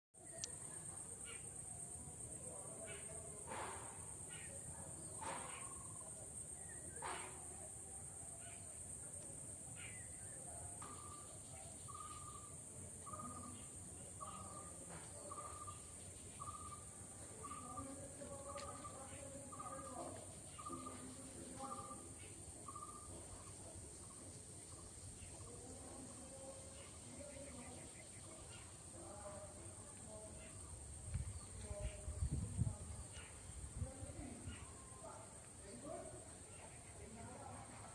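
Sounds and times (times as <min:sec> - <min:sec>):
high outdoor hiss: 0:00.2 - 0:37.9.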